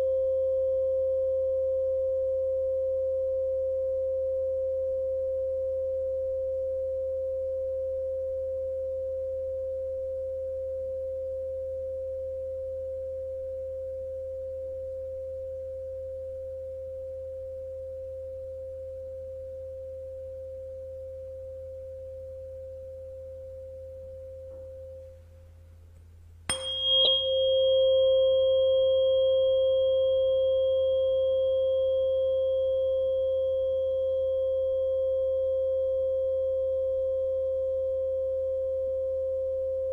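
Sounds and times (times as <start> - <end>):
tuning fork metallic ping: 0.0 - 25.5, 26.4 - 39.9
tuning fork ringing: 0.0 - 39.9.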